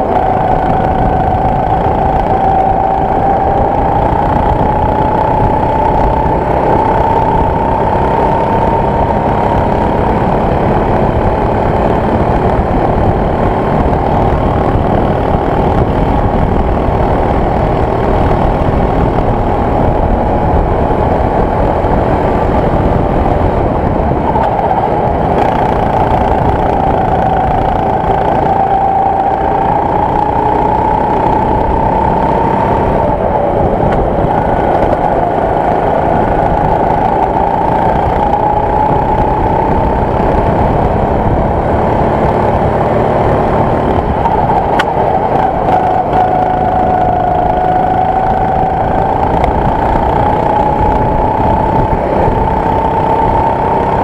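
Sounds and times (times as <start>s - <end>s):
go-kart engine at high revs: 0.0s - 54.0s.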